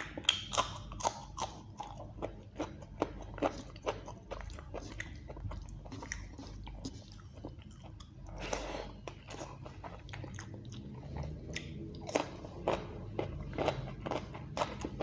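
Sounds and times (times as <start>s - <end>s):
close chewing and biting: 0.0s - 15.0s.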